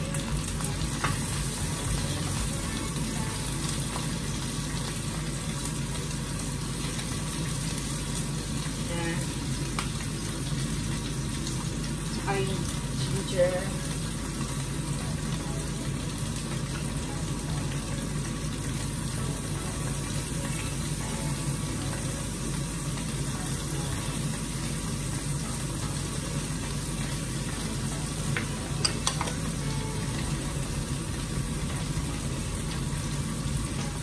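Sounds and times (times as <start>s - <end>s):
fish sizzling in hot oil: 0.0s - 34.0s.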